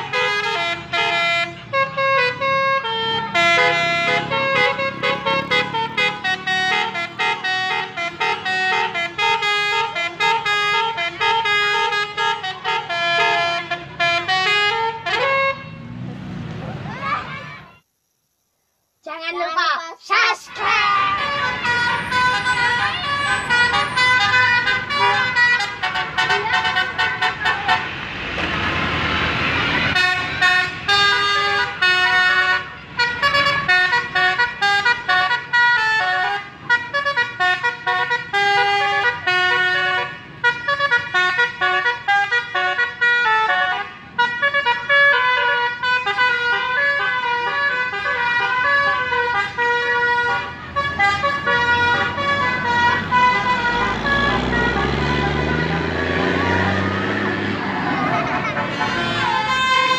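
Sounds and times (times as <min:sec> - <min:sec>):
bus air horns playing melody: 0:00.0 - 0:15.9, 0:20.5 - 0:59.9.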